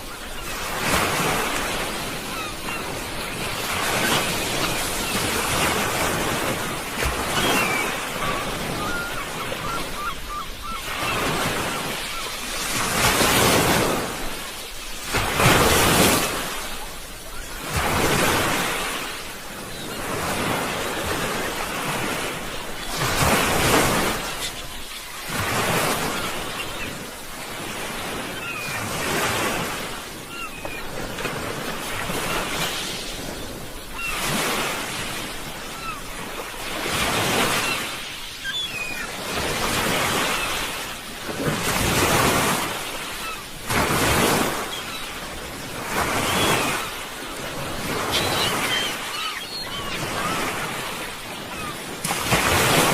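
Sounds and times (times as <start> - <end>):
sea waves washing onto shore: 0.0 - 52.9.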